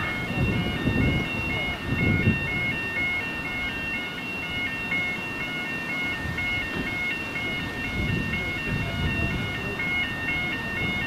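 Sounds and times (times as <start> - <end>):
two-tone electronic alarm: 0.0 - 11.0.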